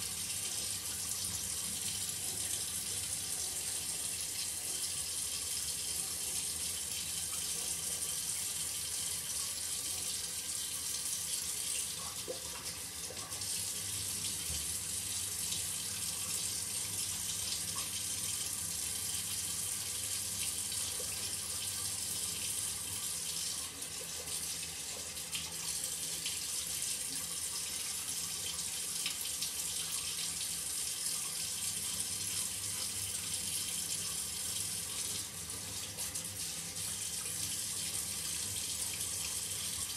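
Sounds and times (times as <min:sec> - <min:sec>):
shower water running: 0:00.0 - 0:39.9.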